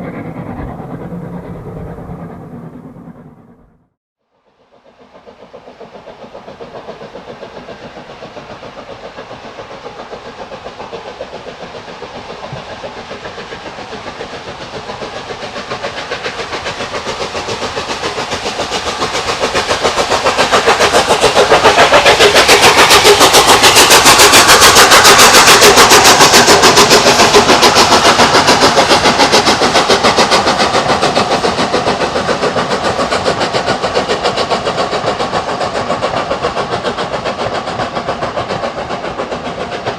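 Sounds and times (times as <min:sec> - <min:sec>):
steam locomotive exhaust beats: 0:00.0 - 0:03.8, 0:04.4 - 0:39.9.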